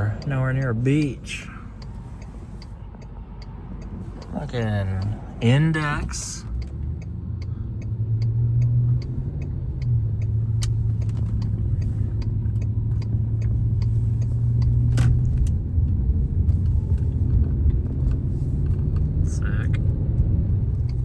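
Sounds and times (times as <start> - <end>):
road rumble: 0.0 - 21.0.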